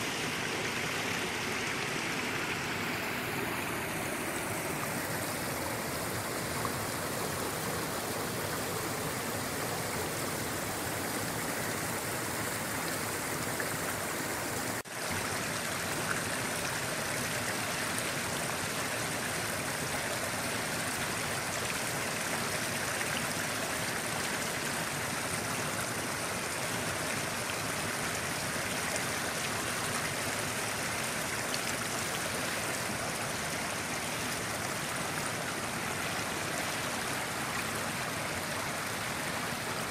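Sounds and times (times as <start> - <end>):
mountain stream rushing over rocks: 0.0 - 39.9.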